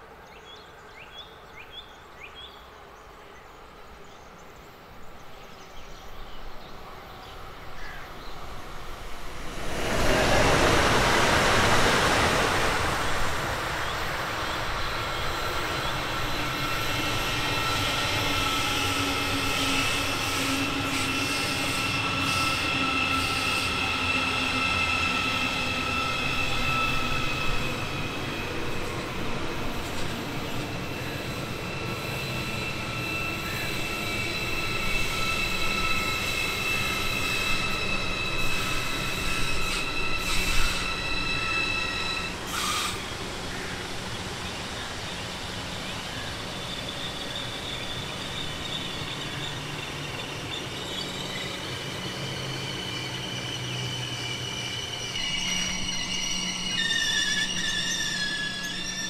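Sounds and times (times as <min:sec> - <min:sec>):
train wheels squealing: 0:05.3 - 0:59.0.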